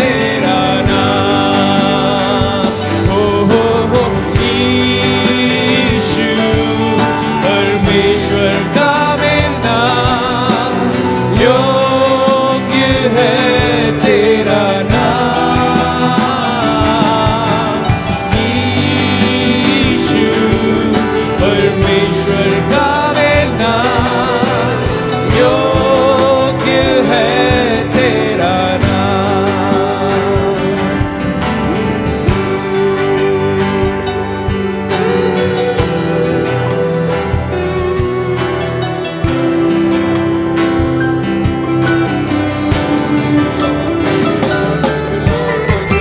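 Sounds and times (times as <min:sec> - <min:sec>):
acoustic guitar: 0:00.0 - 0:46.0
electric bass: 0:00.0 - 0:46.0
keyboard: 0:00.0 - 0:46.0
person singing: 0:00.0 - 0:46.0.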